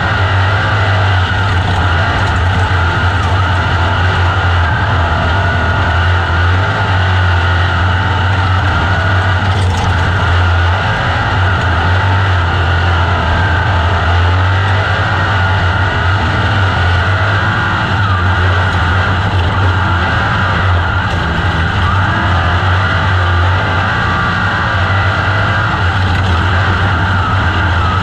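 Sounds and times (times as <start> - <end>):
other race cars: 0.0 - 28.0
race car engine running hard: 0.0 - 28.0.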